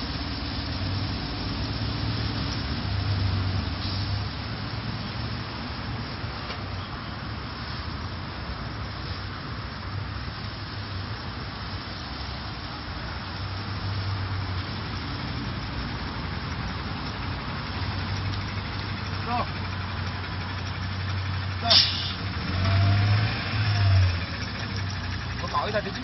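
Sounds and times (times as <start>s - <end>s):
bus engine humming: 0.0s - 26.0s
steady hiss: 0.0s - 26.0s.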